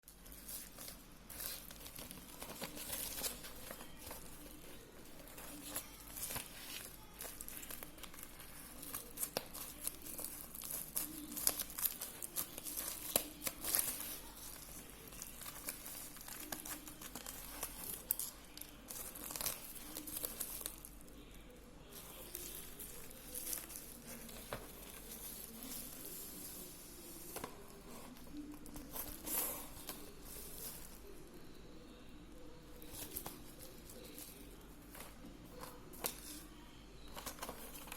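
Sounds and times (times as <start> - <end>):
plastic and paper crinkling: 0.0 - 37.9.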